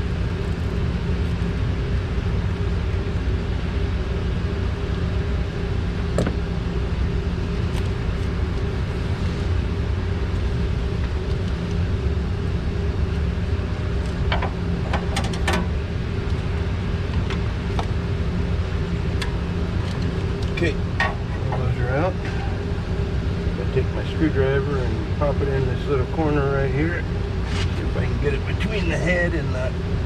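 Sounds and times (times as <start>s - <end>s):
low motor drone: 0.0s - 30.0s.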